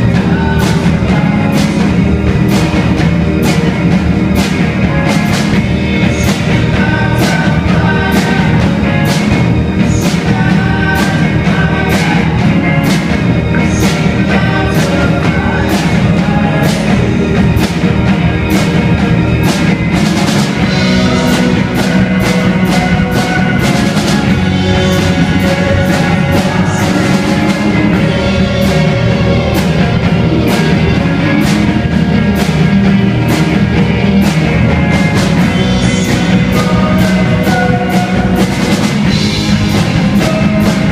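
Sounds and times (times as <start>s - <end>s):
drum kit steady beat: 0.0s - 40.9s
live rock band playing: 0.0s - 40.9s.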